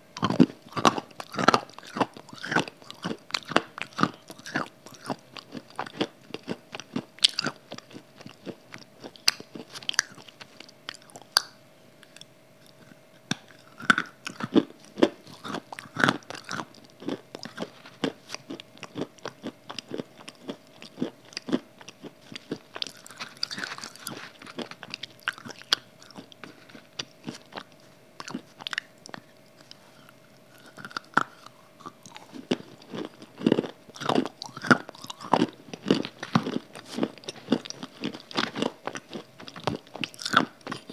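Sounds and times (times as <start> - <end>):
person crunching and chewing: 0.1 - 40.9.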